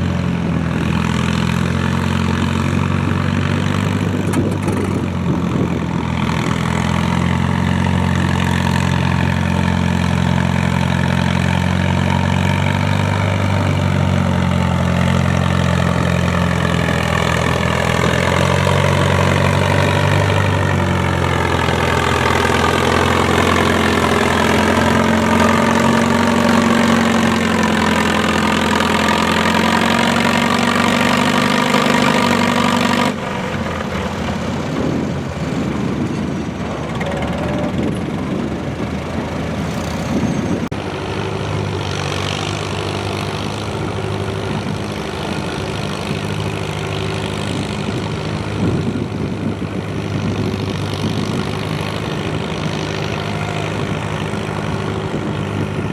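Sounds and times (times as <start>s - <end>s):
rough uneven engine: 0.0s - 55.9s
tractor engine running loud: 0.0s - 55.9s.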